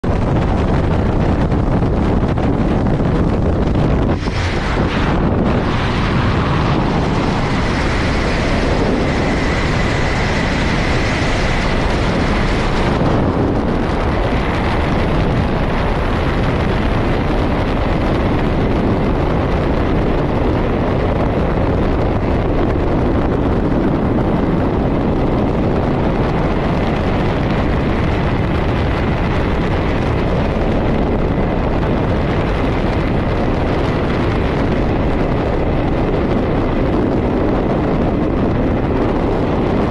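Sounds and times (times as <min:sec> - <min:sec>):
freefall wind rushing: 0:00.0 - 0:39.9.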